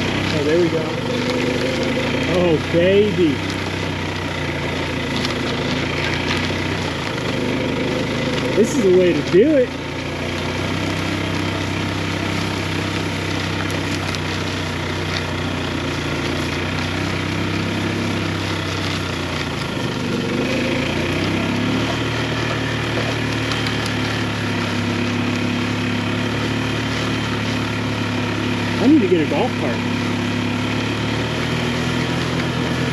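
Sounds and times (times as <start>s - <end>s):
small engine running under load: 0.0s - 32.9s.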